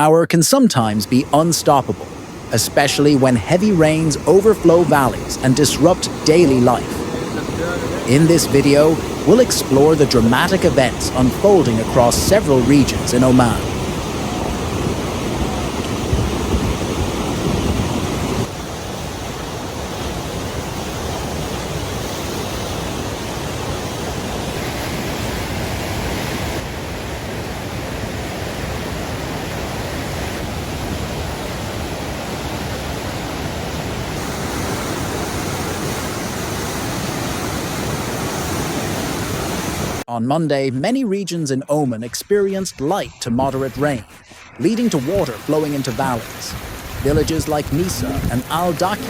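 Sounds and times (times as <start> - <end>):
floodwater rushing: 0.0 - 40.1, 40.8 - 49.0.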